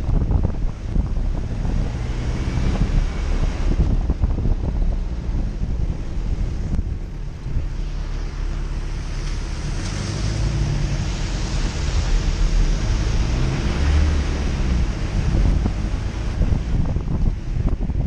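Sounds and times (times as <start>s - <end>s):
off-road engine rumbling: 0.0s - 18.0s
wind noise on microphone: 0.0s - 18.0s.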